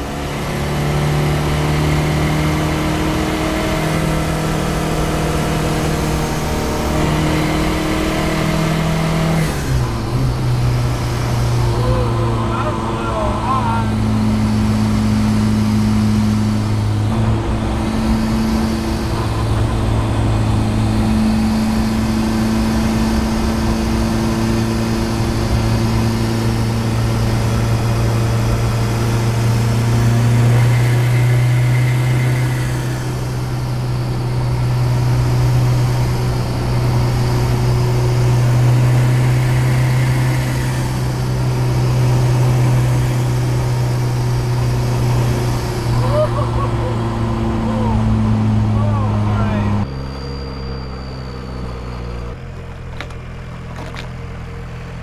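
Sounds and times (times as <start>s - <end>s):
diesel engine running hard: 0.0s - 55.0s
road noise: 0.0s - 55.0s.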